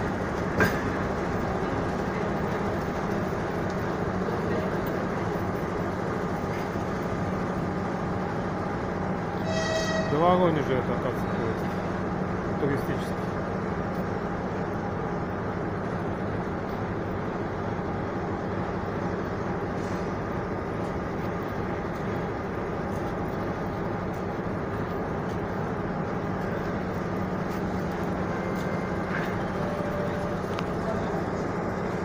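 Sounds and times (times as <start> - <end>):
idle passenger train hum: 0.0 - 32.0.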